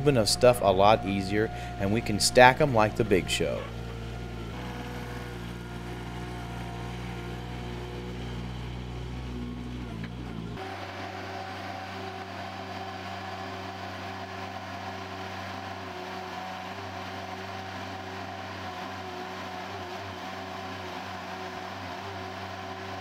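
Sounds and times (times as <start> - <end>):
loader engine running: 0.0 - 23.0.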